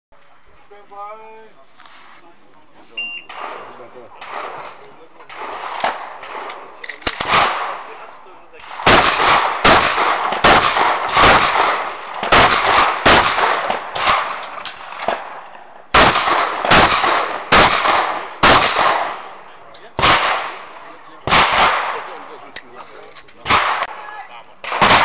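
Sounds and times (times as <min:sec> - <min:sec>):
shotgun shots: 0:03.2 - 0:24.0, 0:24.6 - 0:25.0.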